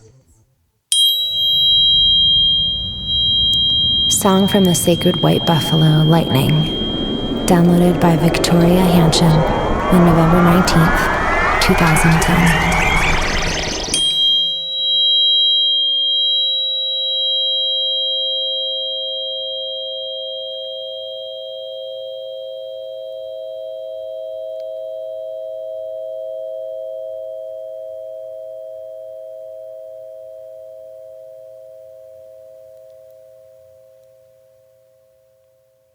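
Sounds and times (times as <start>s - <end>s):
bell-like ringing tone: 0.9s - 35.2s.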